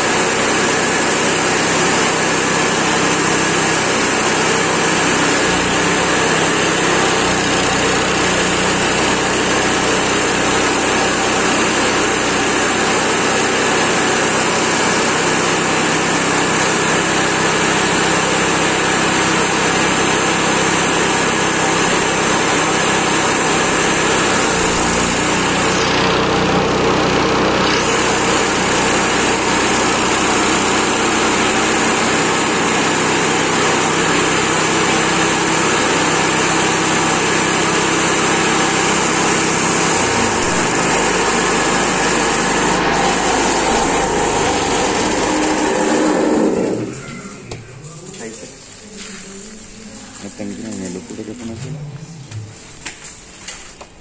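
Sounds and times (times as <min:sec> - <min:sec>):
chipper shredder engine running: 0:00.0 - 0:49.1.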